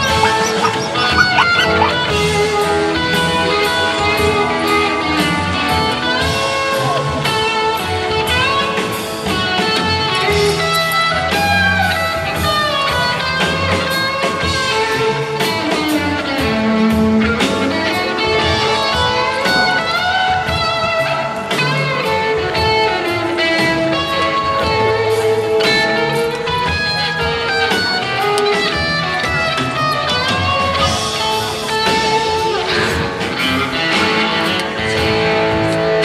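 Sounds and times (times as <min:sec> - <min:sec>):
instrumental guitar music: 0:00.0 - 0:36.0.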